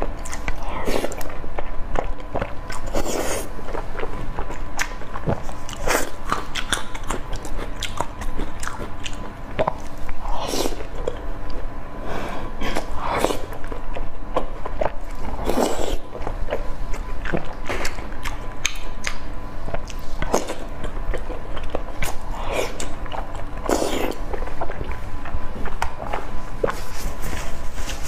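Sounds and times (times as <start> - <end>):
person chewing noodles: 0.0 - 27.6.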